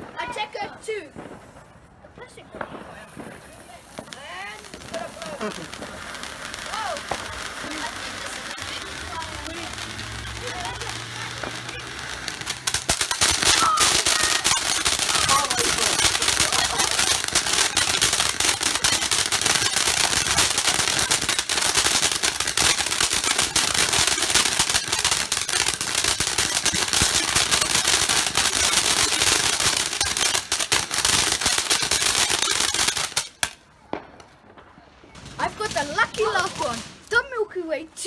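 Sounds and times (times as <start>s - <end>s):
fireworks crackling pops and bangs: 0.0s - 38.0s.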